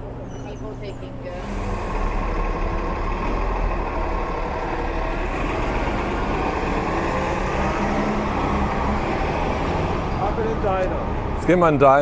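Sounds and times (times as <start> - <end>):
bus engine droning: 0.0 - 12.0
street traffic noise: 0.0 - 12.0.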